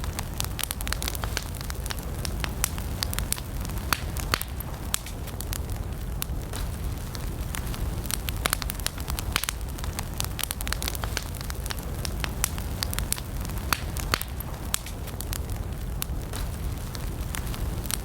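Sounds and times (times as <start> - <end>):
campfire crackling and popping: 0.0 - 18.0
low rumble of flames: 0.0 - 18.0.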